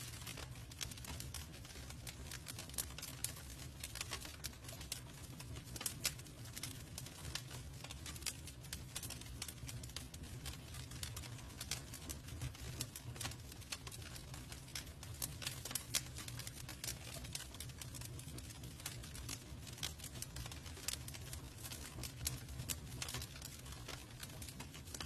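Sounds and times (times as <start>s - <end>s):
campfire crackling and popping: 0.0s - 25.0s
fire low rumble: 0.0s - 25.0s.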